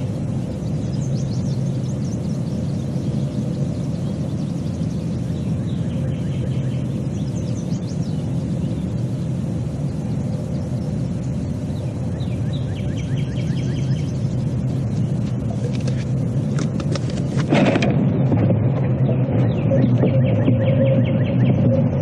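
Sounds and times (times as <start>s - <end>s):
low rumbling noise: 0.0s - 22.0s.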